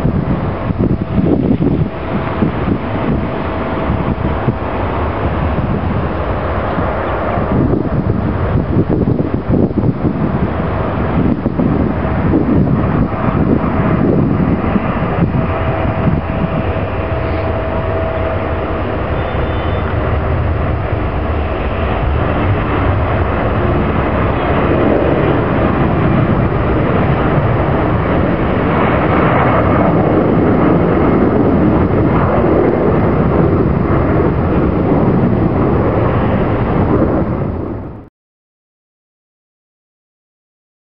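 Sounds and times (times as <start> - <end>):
jet engine roar: 0.0 - 38.1.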